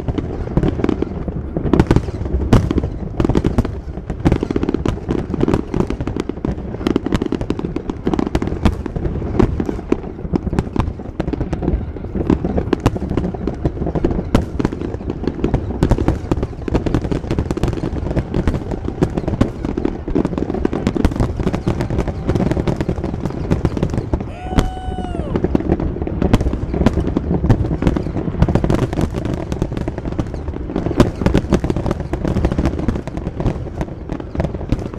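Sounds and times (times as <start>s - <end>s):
fireworks bursting: 0.0s - 34.9s.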